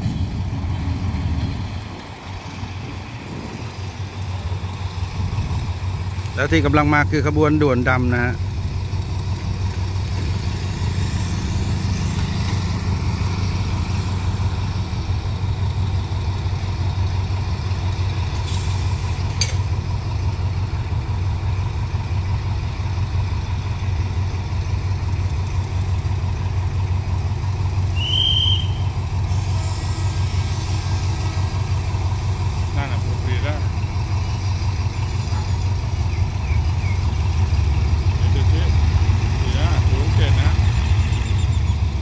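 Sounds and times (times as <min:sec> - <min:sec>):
locomotive engine droning: 0:00.0 - 0:42.0.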